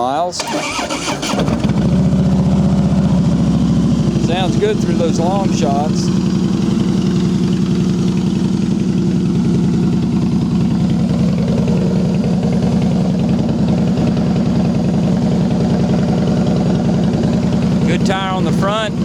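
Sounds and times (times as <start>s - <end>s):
motorcycle engine idling: 0.4s - 19.0s.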